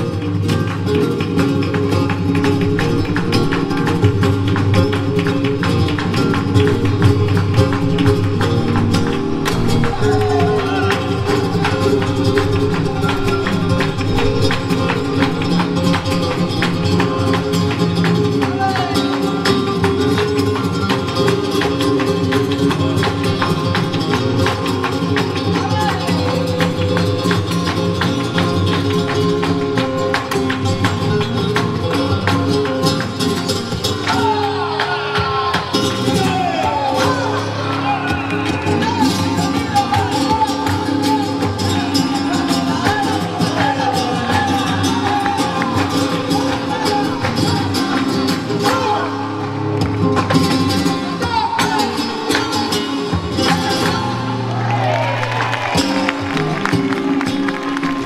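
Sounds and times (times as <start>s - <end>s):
flamenco guitars playing: 0.0s - 58.0s
hand clapping: 0.0s - 58.0s.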